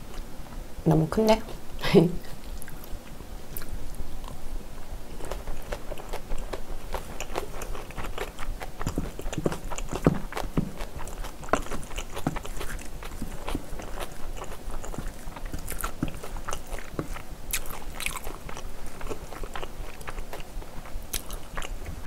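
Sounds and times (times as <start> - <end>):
close chewing with mouth smacks: 2.4 - 4.4, 5.1 - 22.0.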